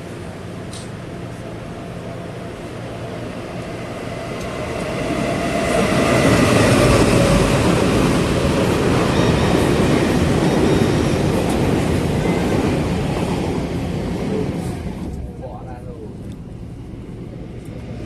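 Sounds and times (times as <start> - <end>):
train wheel and rail rumble: 0.0 - 18.0.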